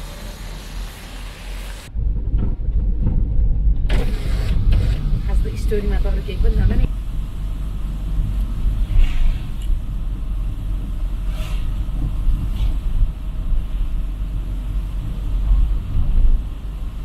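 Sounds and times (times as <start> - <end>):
loud low rumble: 1.6 - 17.0.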